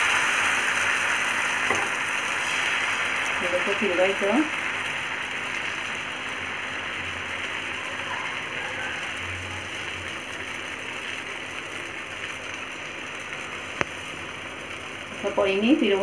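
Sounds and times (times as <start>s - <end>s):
batter sizzling on hot griddle: 0.0s - 16.0s.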